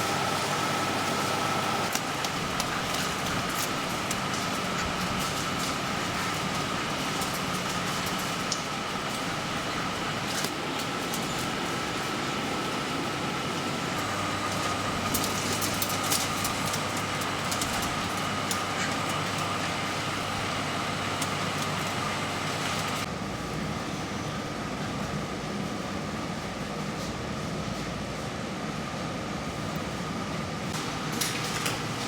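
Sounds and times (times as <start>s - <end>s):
mechanical hum and hiss: 0.0s - 32.0s.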